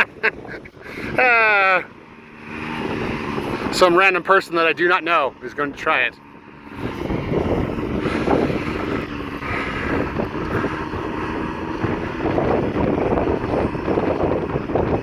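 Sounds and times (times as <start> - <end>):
vehicle engine running: 0.0 - 15.0
wind buffeting microphone: 0.0 - 15.0.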